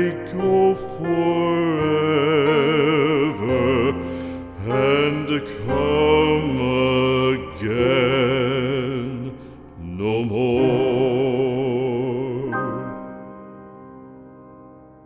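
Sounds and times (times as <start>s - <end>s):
slow music with vibrato melody: 0.0s - 15.0s.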